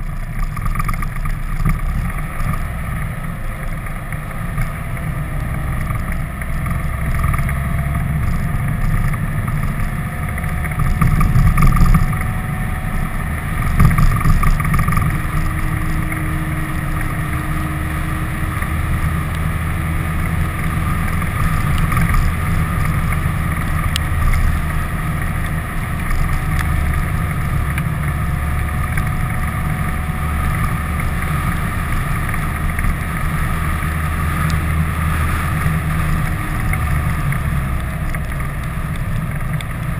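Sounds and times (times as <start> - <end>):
vehicle driving rumble: 0.0 - 39.9
wind buffeting camera: 0.0 - 39.9.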